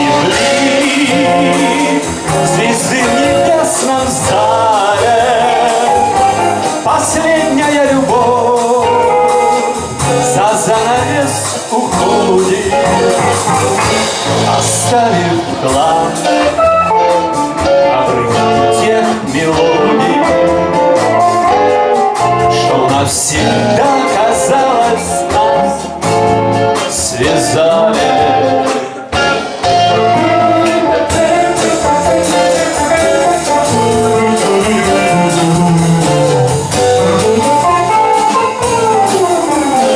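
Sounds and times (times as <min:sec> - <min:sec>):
live blues band: 0:00.0 - 0:39.9
wavering lead melody: 0:00.0 - 0:39.9.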